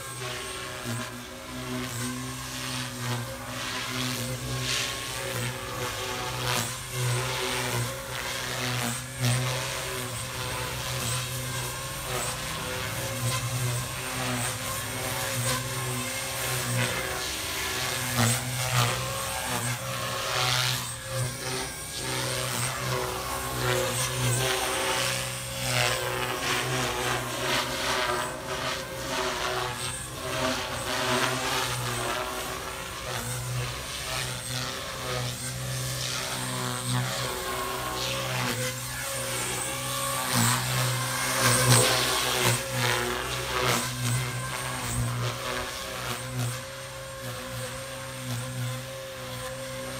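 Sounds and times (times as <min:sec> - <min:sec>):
model helicopter rotor and motor: 0:00.0 - 0:49.9.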